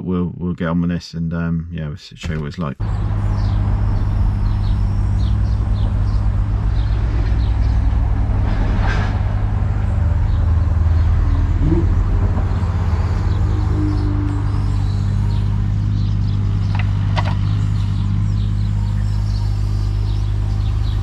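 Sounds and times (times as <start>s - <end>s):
birds chirping faintly: 2.2s - 9.0s, 9.8s - 21.0s
excavator diesel engine running: 2.2s - 21.0s
short rising whine: 2.8s - 21.0s.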